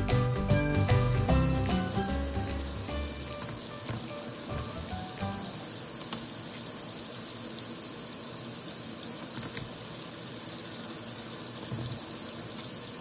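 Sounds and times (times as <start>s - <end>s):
steady high hiss: 0.7s - 13.0s.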